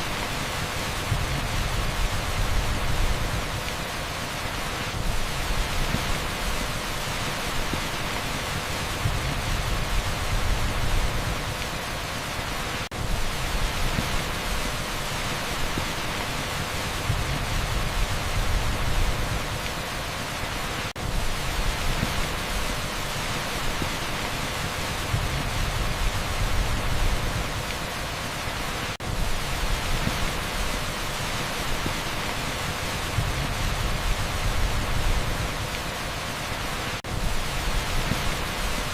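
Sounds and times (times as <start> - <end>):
torrential rain on a street: 0.0 - 38.9.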